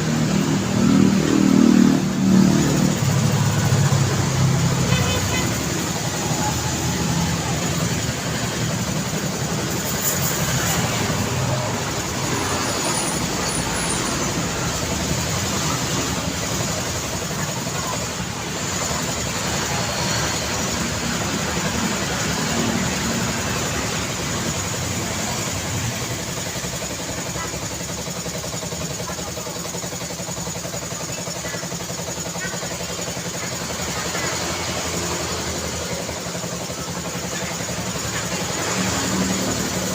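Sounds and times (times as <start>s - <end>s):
cars and motorcycles passing: 0.0s - 28.2s, 32.3s - 39.9s.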